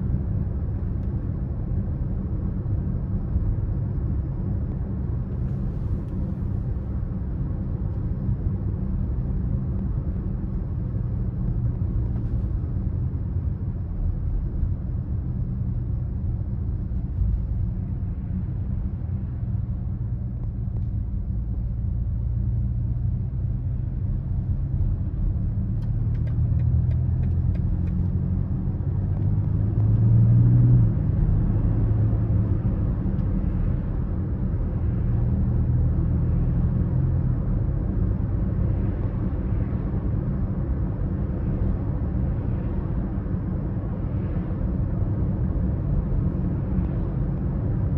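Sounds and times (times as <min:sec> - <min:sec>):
road noise: 0:00.0 - 0:47.9.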